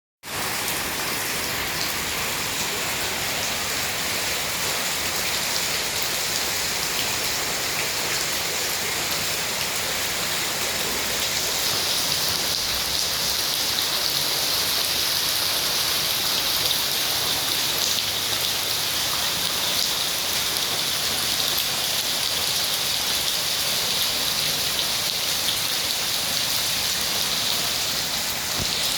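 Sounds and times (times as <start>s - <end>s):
heavy rain on pool water: 0.2s - 28.9s.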